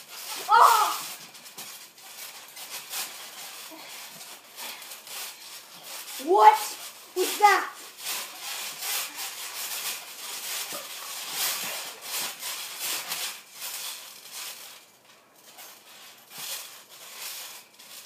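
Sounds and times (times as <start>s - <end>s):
bodies grappling on trampoline mat: 0.0s - 14.8s.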